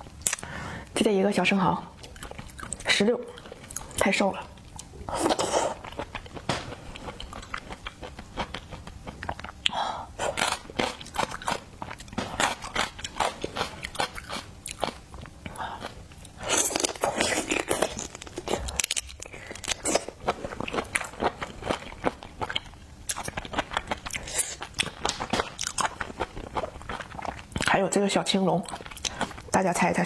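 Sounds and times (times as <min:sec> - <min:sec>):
person chewing food: 0:02.0 - 0:27.8, 0:28.6 - 0:29.6.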